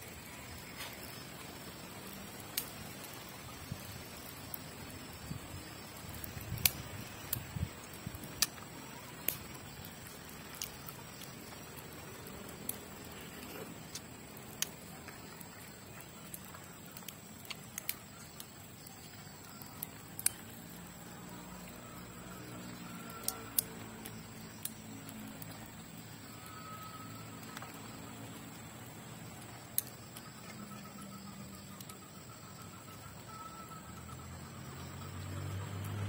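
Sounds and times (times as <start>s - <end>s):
steady hiss: 0.0s - 36.0s.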